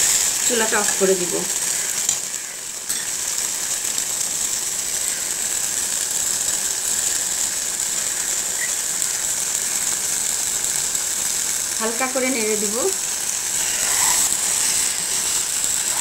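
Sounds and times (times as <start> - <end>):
curry sizzling and bubbling in a pan: 0.0 - 16.0.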